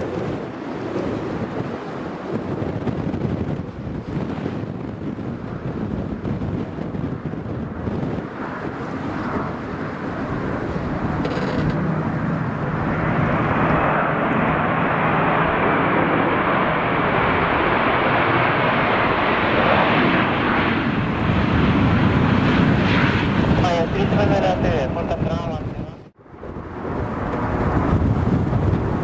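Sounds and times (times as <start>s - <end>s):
airliner engine roar: 0.0s - 29.0s
wind buffeting microphone: 0.0s - 29.0s.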